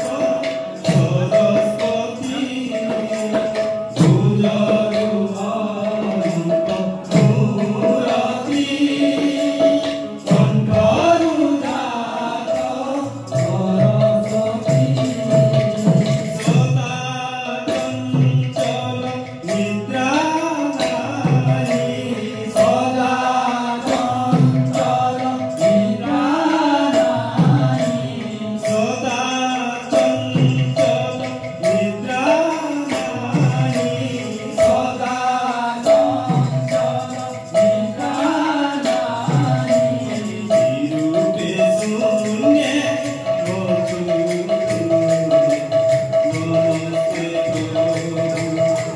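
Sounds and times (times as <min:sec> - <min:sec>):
hand percussion strikes: 0:00.0 - 0:48.9
voices singing devotional song: 0:00.0 - 0:48.9.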